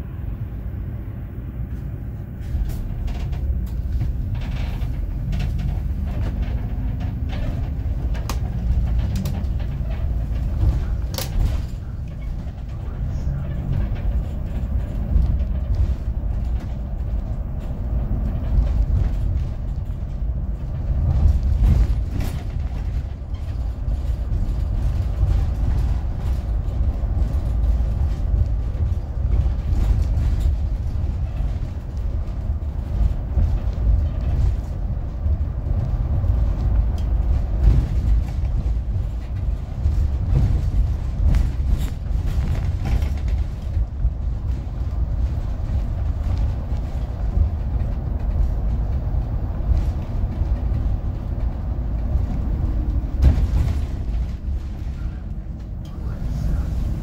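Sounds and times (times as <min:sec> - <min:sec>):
bus body creaking and rattling: 0:00.0 - 0:57.0
bus engine and tyres rumbling: 0:00.0 - 0:57.0.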